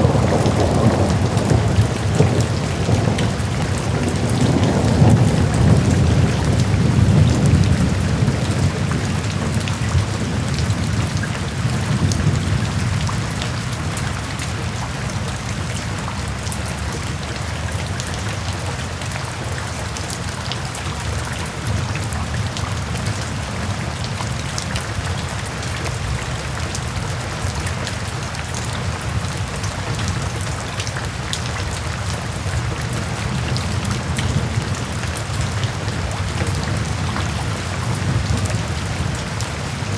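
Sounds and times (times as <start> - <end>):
low rumble of thunder: 0.0 - 18.5, 20.9 - 39.9
heavy rain pattering: 0.0 - 39.9.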